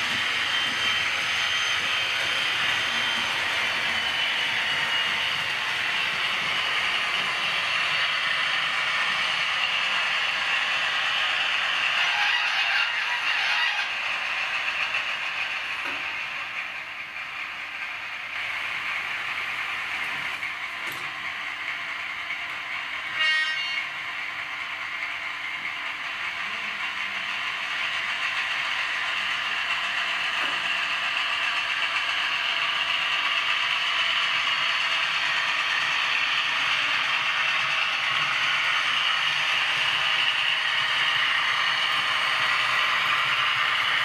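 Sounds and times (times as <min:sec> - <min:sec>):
model train whirring and rattling: 0:00.0 - 0:44.0.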